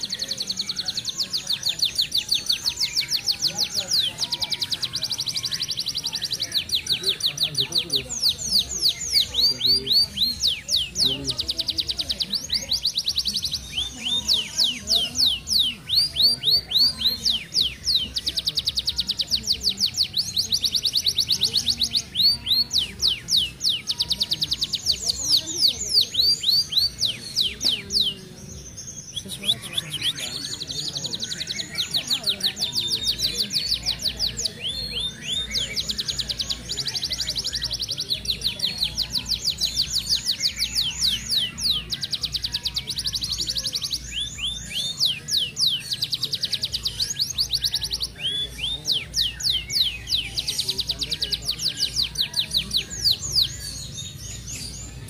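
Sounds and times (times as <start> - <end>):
canary singing trills and whistles: 0.0 - 55.0.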